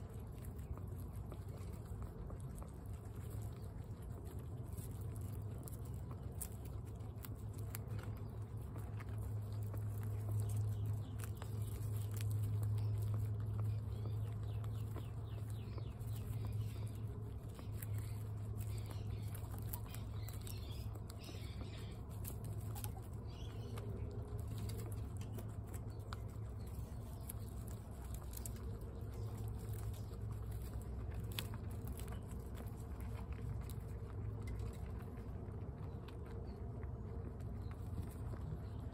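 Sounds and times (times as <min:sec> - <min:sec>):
guinea pigs crunching pellets: 0:00.0 - 0:38.9
steady low hum: 0:00.0 - 0:38.9.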